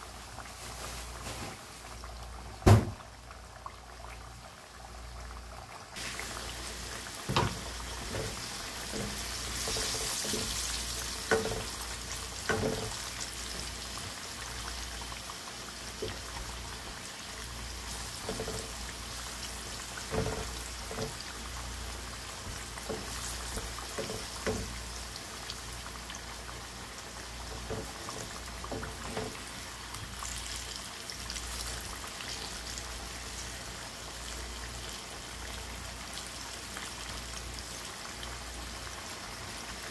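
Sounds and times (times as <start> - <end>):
food deep-frying in oil: 0.0 - 39.9.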